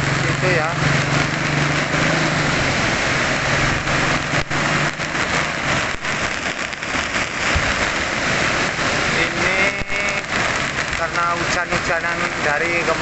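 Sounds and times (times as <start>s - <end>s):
floodwater flowing: 0.0s - 13.0s
heavy rain: 0.0s - 13.0s.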